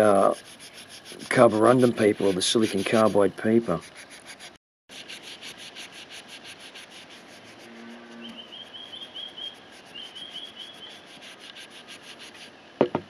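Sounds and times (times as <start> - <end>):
rust eraser scratching metal: 0.0 - 12.5.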